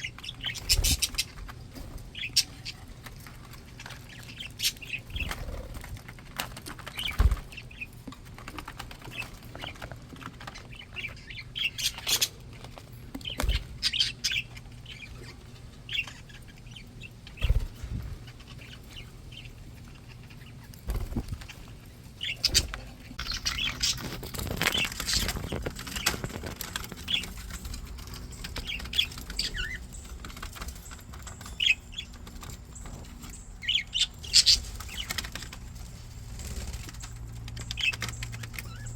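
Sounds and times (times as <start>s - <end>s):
budgies chirping and chattering: 0.0s - 38.9s.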